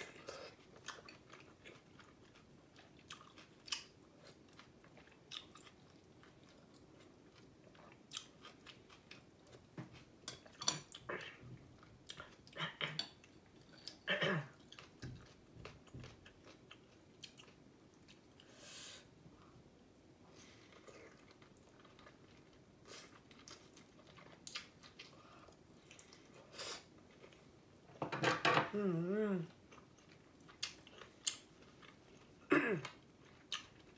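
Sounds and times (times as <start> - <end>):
person chewing meat: 0.0 - 18.5, 20.5 - 27.4, 29.7 - 33.9.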